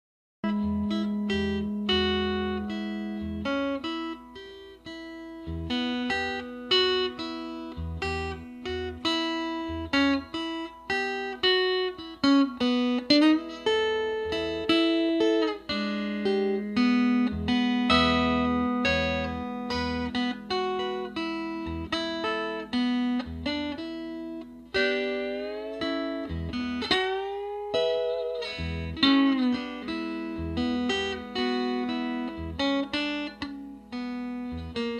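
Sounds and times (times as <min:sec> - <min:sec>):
fingerpicked blues guitar: 0:00.4 - 0:34.9.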